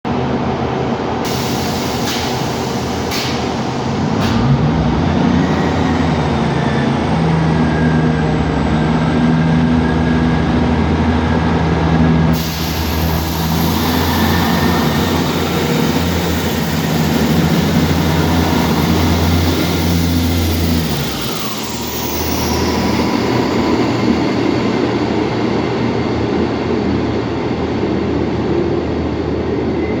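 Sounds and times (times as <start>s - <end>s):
diesel train engine drone: 0.1s - 30.0s.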